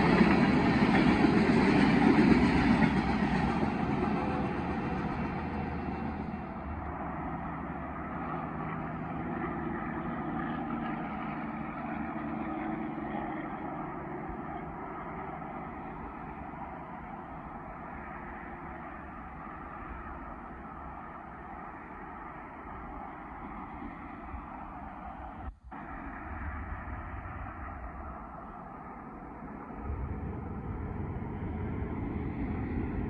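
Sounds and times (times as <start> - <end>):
vehicle engine and tyre hum: 0.0 - 33.0.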